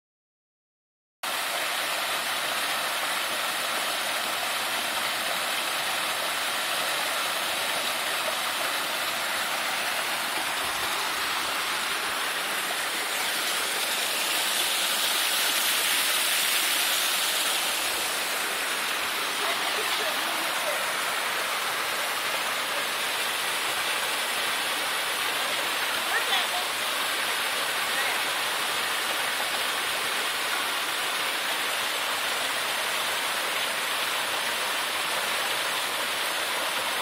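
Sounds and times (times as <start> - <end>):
stream water running: 1.2 - 37.0.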